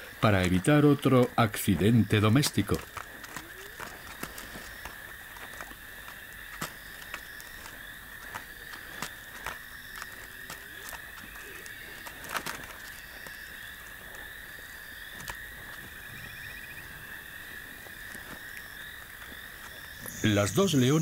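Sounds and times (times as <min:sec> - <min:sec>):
crickets chirring: 0:00.0 - 0:21.0
sharp clicks and crackles: 0:00.1 - 0:20.3.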